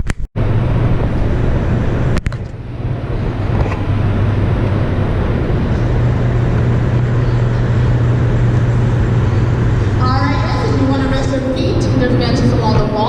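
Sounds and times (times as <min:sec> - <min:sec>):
low machinery hum: 0:00.4 - 0:13.0.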